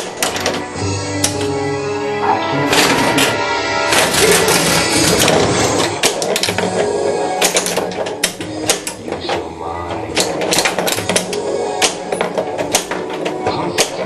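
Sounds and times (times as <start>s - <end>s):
pinball mechanical clacks: 0.0s - 1.5s, 2.7s - 14.0s
pinball game music and effects: 0.0s - 14.0s.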